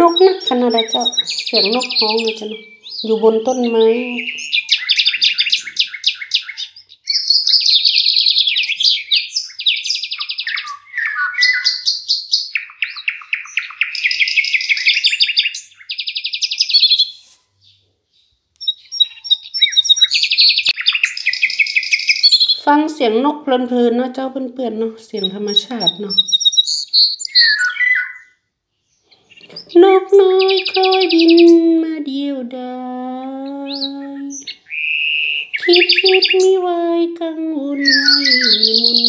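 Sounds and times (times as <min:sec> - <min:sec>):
songbird singing: 0:00.0 - 0:39.0.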